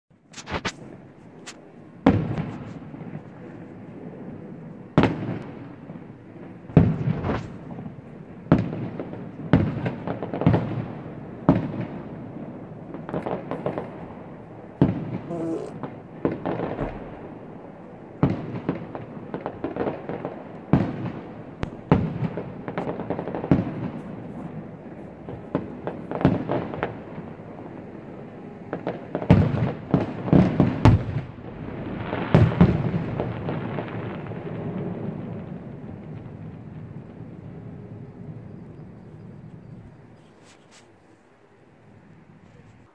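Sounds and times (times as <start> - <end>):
fireworks bursting with echo: 0.3 - 28.1, 28.7 - 38.6.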